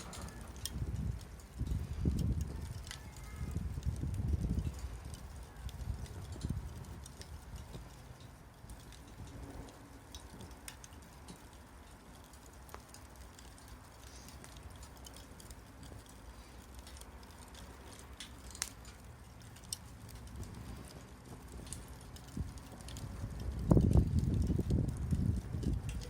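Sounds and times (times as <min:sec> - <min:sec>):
low steady rumble: 0:00.0 - 0:26.0
wood fire crackling: 0:00.0 - 0:26.0.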